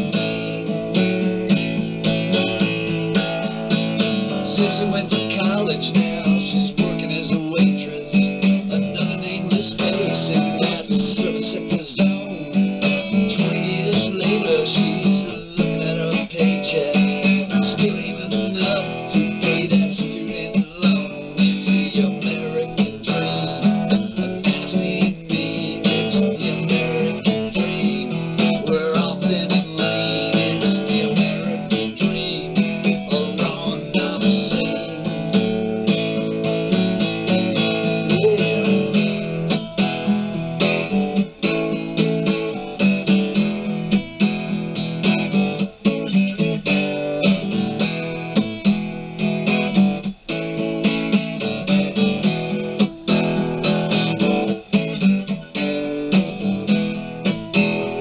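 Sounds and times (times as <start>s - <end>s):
guitar strummed and picked: 0.0s - 58.0s.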